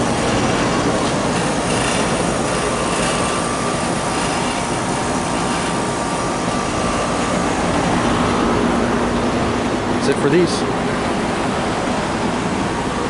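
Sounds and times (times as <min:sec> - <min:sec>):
compressor hum: 0:00.0 - 0:13.0
condenser fans whooshing: 0:00.0 - 0:13.0.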